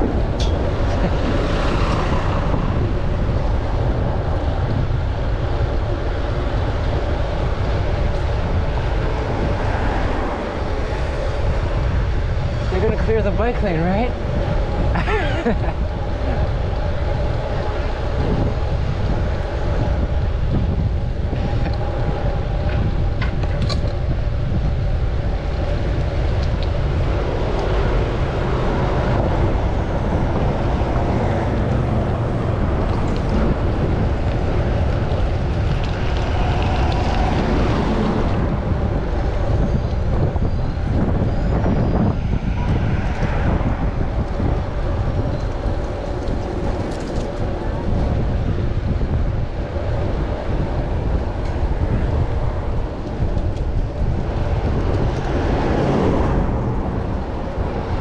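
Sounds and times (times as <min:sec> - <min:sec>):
traffic: 0:00.0 - 0:58.0
wind rushing over microphone: 0:00.0 - 0:58.0.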